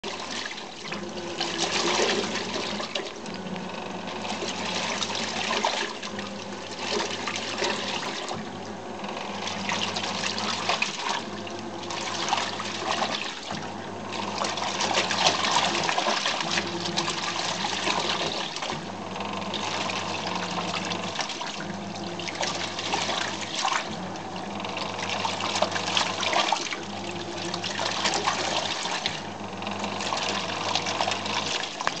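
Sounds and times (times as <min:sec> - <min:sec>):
water and clothes sloshing: 0:00.0 - 0:32.0
low motor hum: 0:00.9 - 0:32.0.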